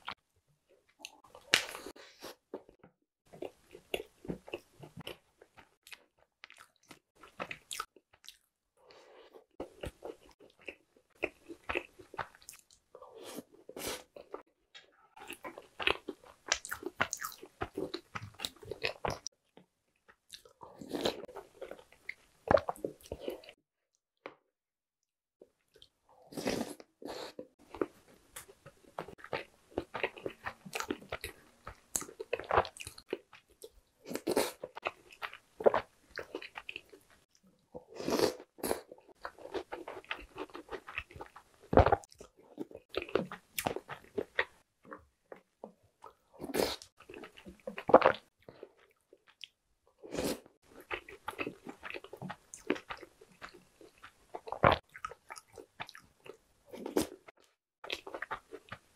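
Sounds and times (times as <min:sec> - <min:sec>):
chewing and crunching: 0:03.3 - 0:14.4, 0:15.1 - 0:23.6, 0:25.7 - 0:58.9.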